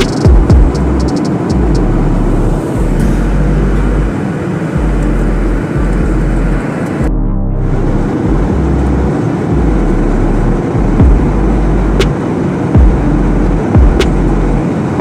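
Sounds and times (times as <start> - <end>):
jet engine roar: 0.0 - 7.1, 7.7 - 15.0.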